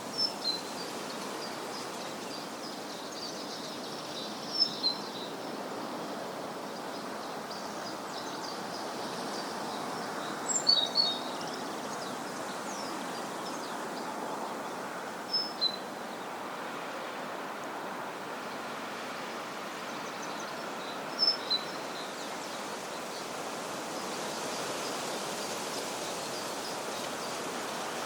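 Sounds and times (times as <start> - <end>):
small birds chirping: 0.0 - 16.3, 18.6 - 28.0.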